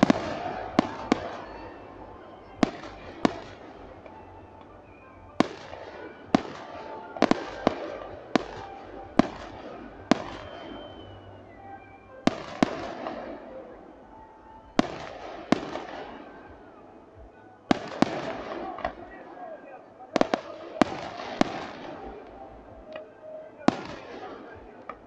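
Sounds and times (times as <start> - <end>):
fireworks bursting with echoes: 0.0 - 25.0.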